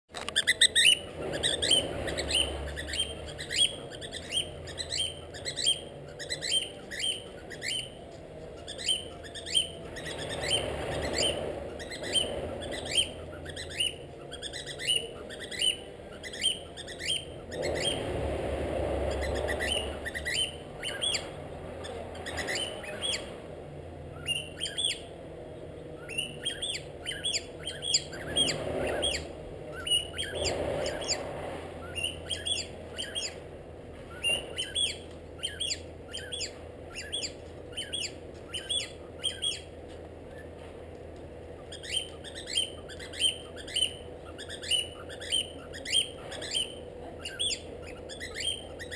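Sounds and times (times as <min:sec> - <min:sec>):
cockatiel chirping: 0:00.2 - 0:18.1, 0:19.1 - 0:23.3, 0:24.1 - 0:25.1, 0:26.0 - 0:31.2, 0:31.8 - 0:33.4, 0:34.1 - 0:39.7, 0:41.6 - 0:48.9.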